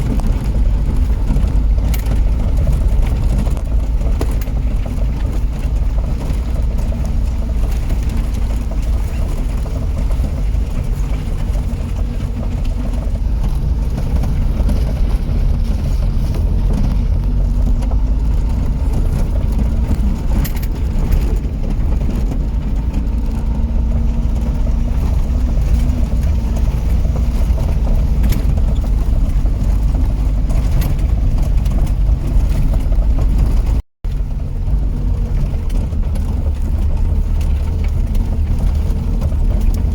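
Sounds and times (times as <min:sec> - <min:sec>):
road noise: 0:00.0 - 0:39.9
vehicle engine rumble: 0:00.0 - 0:39.9.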